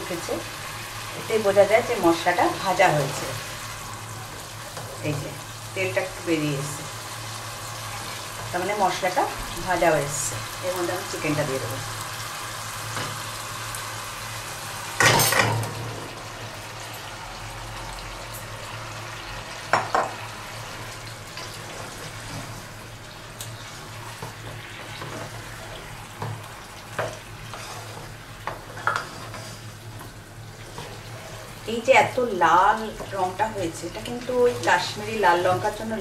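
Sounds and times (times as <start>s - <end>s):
chicken sizzling in a pan: 0.0s - 36.0s.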